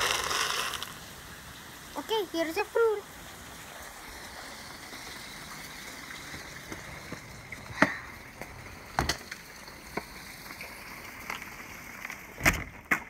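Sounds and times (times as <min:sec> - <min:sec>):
rain hiss: 0:00.0 - 0:12.5.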